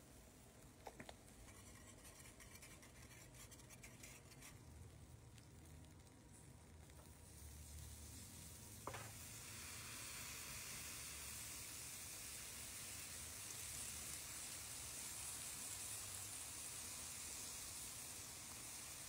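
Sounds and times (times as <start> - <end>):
sauce sizzling on grilling chicken: 1.4 - 19.0.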